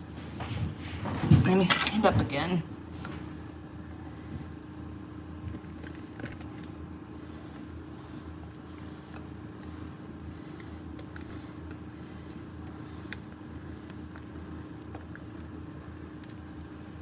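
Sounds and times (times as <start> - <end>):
kitchen appliance humming: 1.5 - 17.0.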